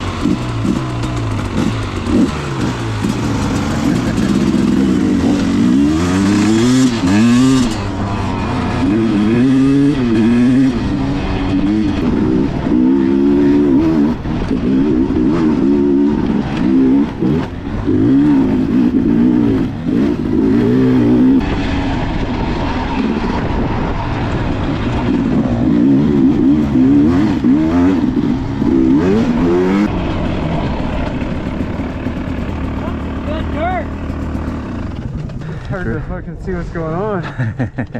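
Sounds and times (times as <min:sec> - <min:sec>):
dirt bike engine revving: 0:00.0 - 0:35.7
rushing wind: 0:00.0 - 0:37.9.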